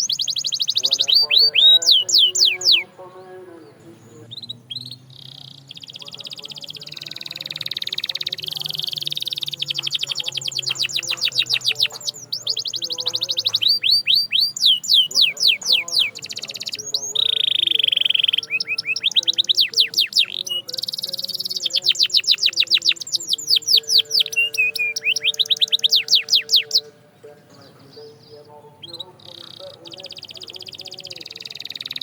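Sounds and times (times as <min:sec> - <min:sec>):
canary singing: 0:00.0 - 0:32.0.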